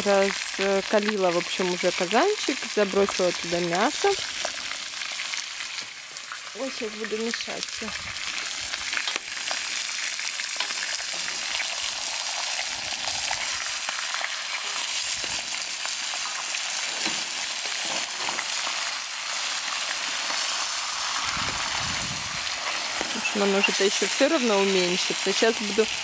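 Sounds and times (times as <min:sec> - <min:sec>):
firewood crackling: 0:00.0 - 0:26.0
meat sizzling in a pan: 0:00.0 - 0:26.0.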